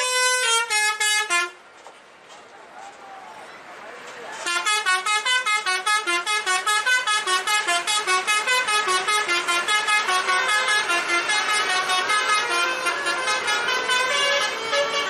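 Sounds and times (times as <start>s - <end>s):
musical bus horn melody: 0.0s - 1.7s, 4.4s - 15.0s.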